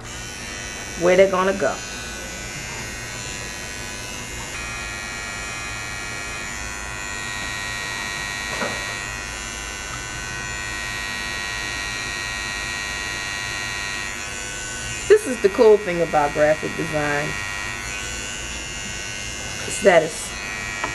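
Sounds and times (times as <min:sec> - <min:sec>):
electric hair clippers buzzing: 0:00.0 - 0:20.9.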